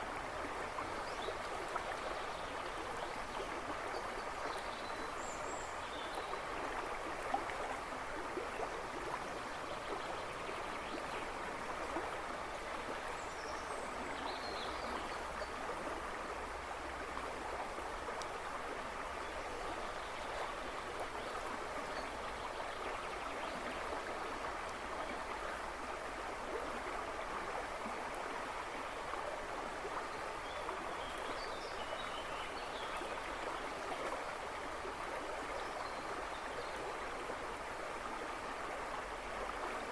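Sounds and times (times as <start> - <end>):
river rushing and babbling: 0.0 - 39.9.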